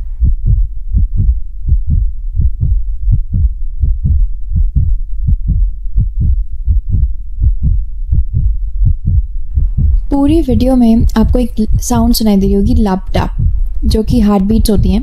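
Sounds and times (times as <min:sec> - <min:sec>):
heartbeat thumps: 0:00.0 - 0:15.0.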